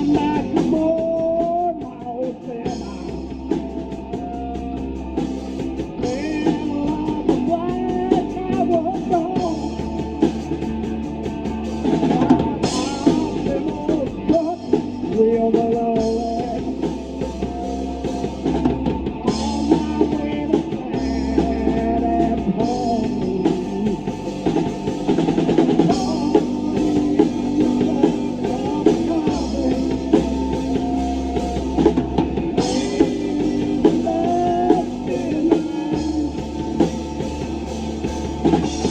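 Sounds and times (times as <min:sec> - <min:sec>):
bass guitar low notes: 0:00.0 - 0:38.9
drum kit: 0:00.0 - 0:38.9.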